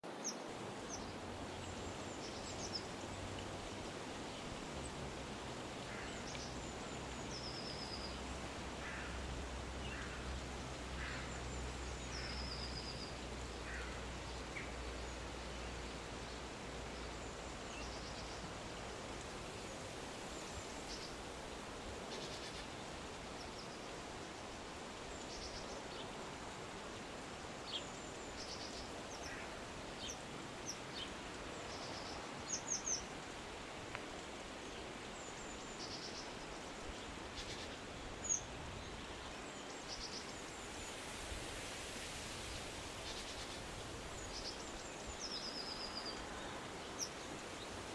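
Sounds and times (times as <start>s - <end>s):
steady outdoor hiss: 0.0s - 47.9s.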